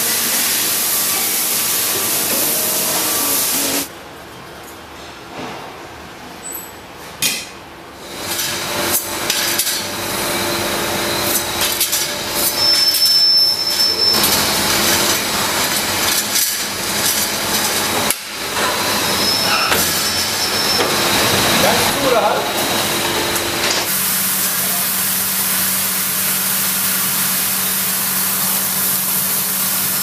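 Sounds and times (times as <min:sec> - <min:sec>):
steady factory noise: 0:00.0 - 0:30.0.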